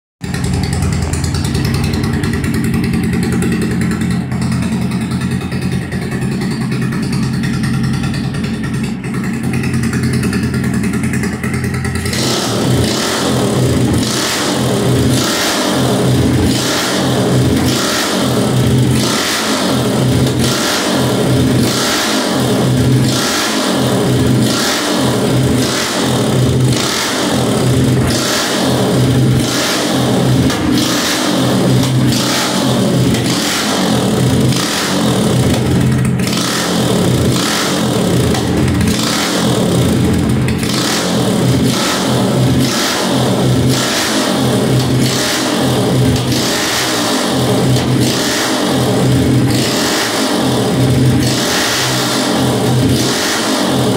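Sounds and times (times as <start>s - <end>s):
motorcycle engine idling: 0.2s - 53.9s.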